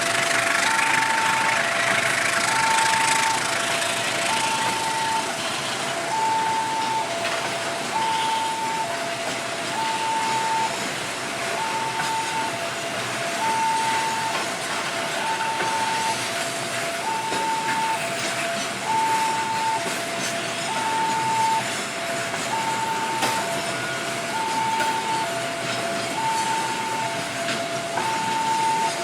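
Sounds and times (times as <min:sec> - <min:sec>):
freight wagons rumbling on track: 0:00.0 - 0:29.0
level crossing alarm two tones: 0:00.5 - 0:03.5, 0:04.2 - 0:05.4, 0:06.0 - 0:29.0.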